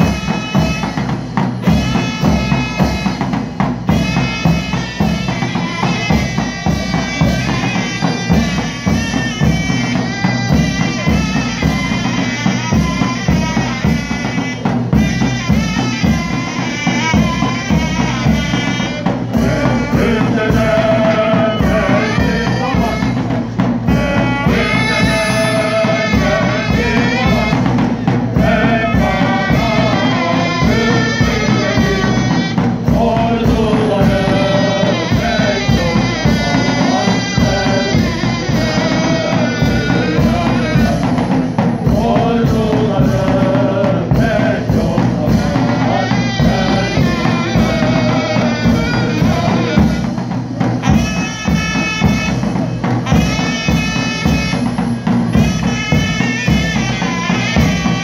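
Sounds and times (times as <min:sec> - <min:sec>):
marching drum beat: 0:00.0 - 0:58.0
military band march: 0:00.0 - 0:58.0
voices singing: 0:00.0 - 0:58.0.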